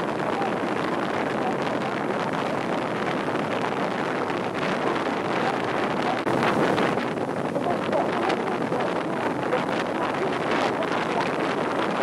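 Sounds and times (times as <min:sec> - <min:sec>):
water washing along a hull: 0:00.0 - 0:12.0
wind buffeting the microphone: 0:00.0 - 0:12.0.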